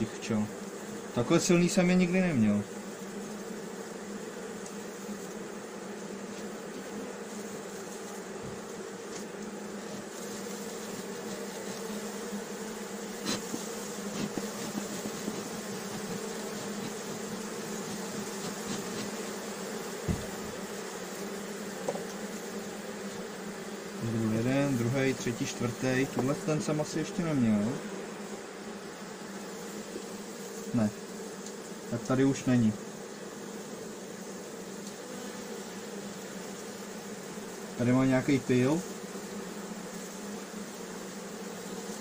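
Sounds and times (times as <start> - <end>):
bees humming: 0.0 - 42.0.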